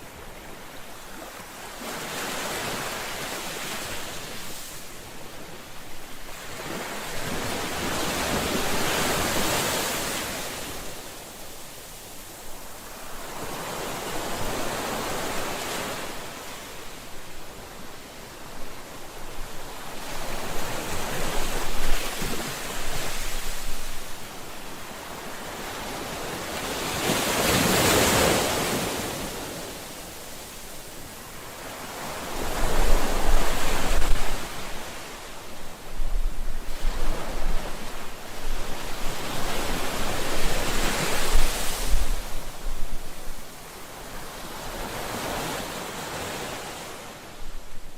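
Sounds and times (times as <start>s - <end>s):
ocean waves on shore: 0.0s - 47.9s.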